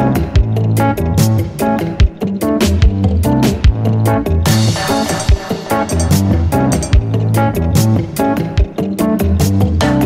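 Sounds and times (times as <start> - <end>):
background music with beat: 0.0 - 10.0
bass: 0.0 - 10.0
guitar: 0.0 - 10.0.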